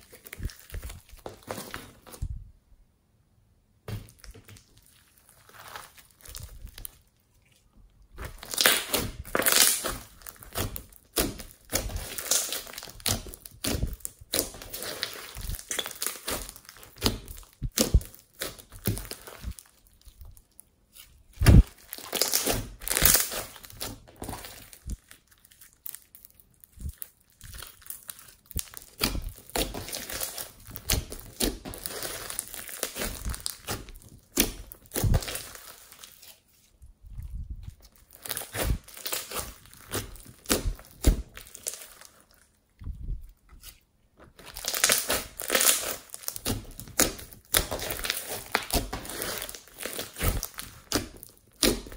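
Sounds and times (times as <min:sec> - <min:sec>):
slime squishing: 0:00.0 - 0:02.4, 0:03.9 - 0:51.9.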